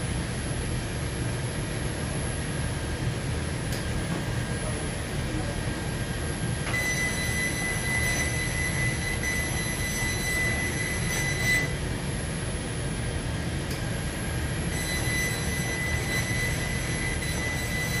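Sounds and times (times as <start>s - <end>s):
machine high whine: 0.0s - 18.0s.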